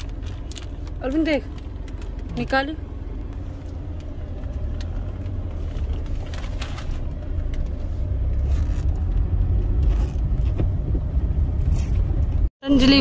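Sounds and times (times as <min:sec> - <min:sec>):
engine and road rumble in car: 0:00.0 - 0:13.0.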